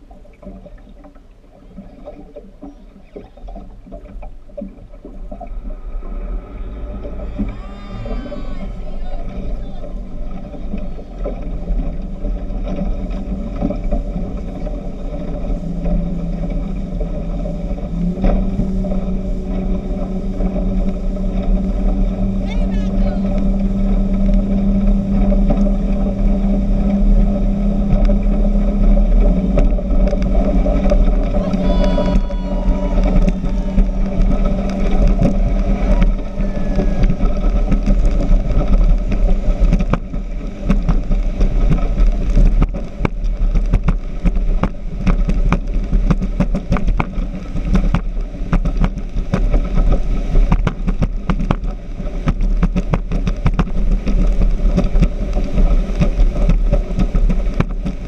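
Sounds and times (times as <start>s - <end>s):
speedboat engines running: 0.0s - 58.0s.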